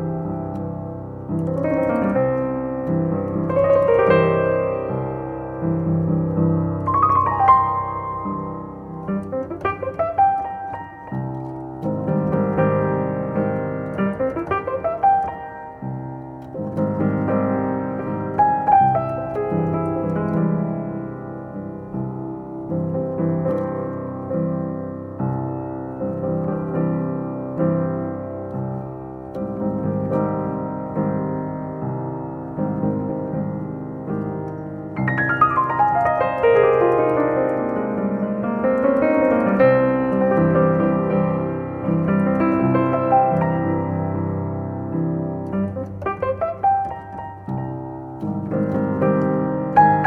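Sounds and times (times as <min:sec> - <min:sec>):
soft piano chords: 0:00.0 - 0:50.0.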